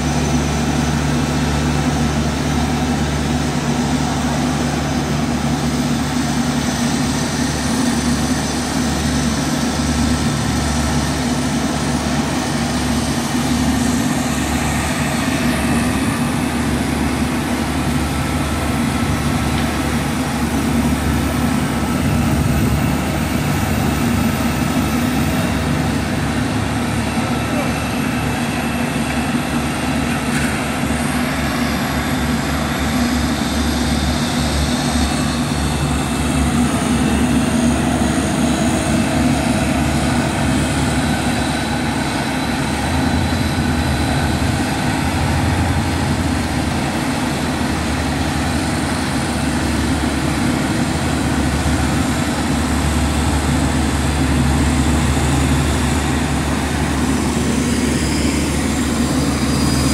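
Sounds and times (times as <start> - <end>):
low diesel engine drone: 0.0 - 59.9.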